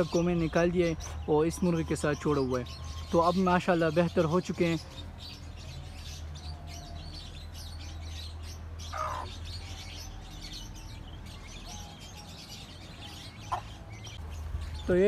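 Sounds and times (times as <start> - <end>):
guinea fowl keets peeping: 0.0 - 15.0.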